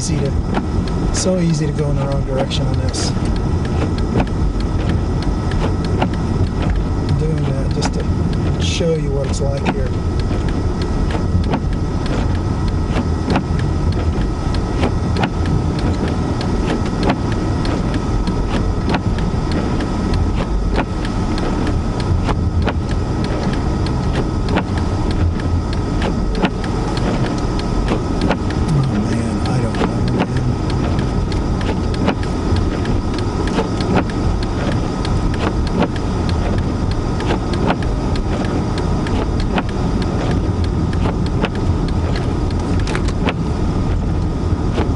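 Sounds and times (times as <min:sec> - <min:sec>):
car interior rumble: 0:00.0 - 0:44.9
small clicks and ticks: 0:00.0 - 0:44.9.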